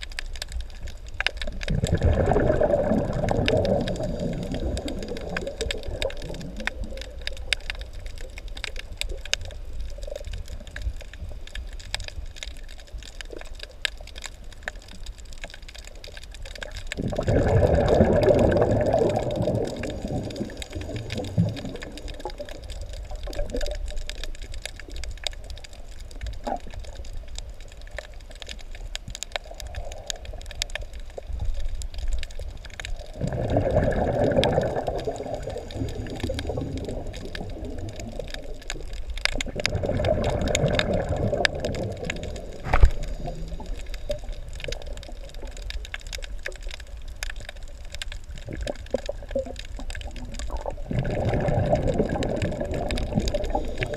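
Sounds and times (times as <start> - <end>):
muffled underwater water sound: 0.0 - 53.9
water surges: 0.0 - 53.9.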